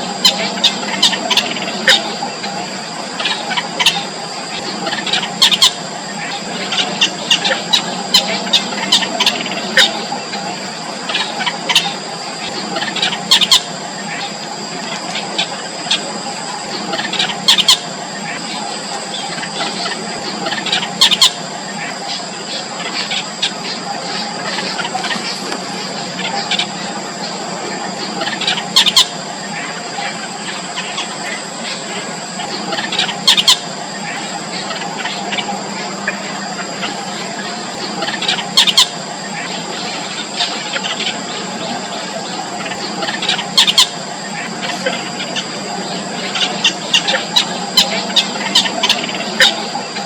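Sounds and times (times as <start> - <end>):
high-pitched background whine: 0.0 - 50.0
nestlings peeping: 0.0 - 50.0.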